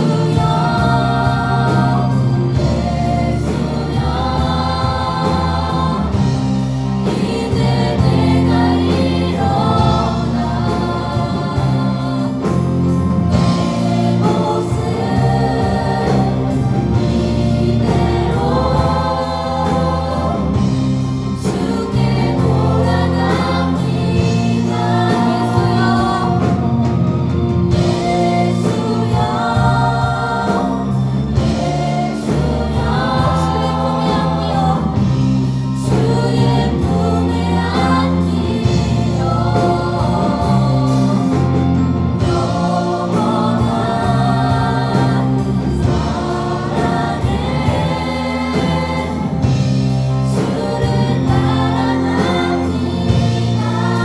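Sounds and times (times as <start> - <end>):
group singing worship song: 0.0 - 54.0
live band with bass and beat: 0.0 - 54.0.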